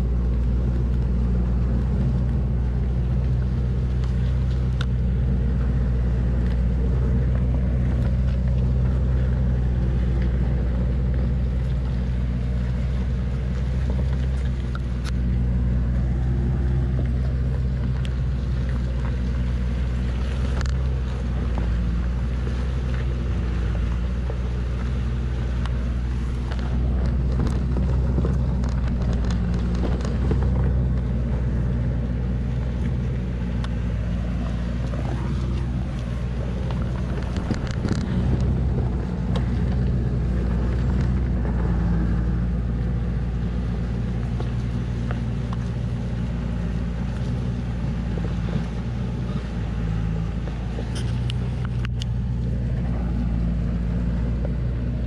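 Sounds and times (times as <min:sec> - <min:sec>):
truck engine running under load: 0:00.0 - 0:55.0.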